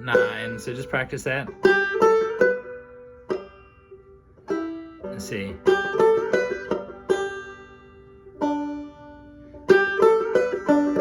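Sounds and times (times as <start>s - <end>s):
banjo plucked notes: 0.0s - 11.0s.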